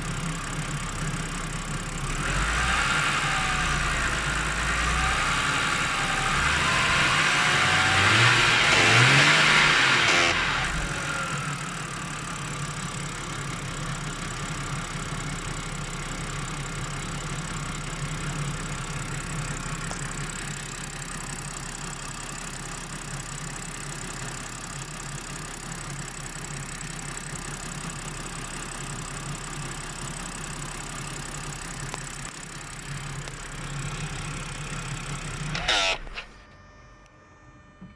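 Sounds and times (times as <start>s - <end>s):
car engine idling: 0.0s - 36.2s.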